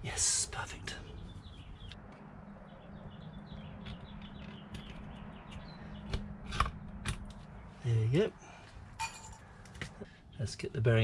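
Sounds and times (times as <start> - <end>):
faint small birds chirping: 0.0 - 11.0.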